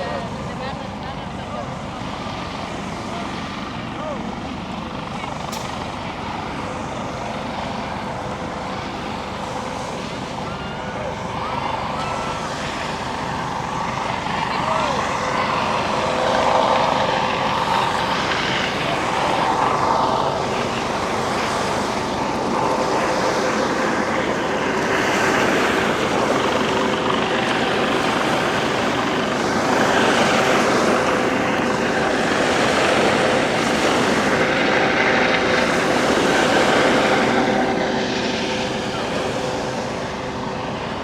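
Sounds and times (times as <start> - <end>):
propeller aircraft engine droning: 0.0 - 41.0.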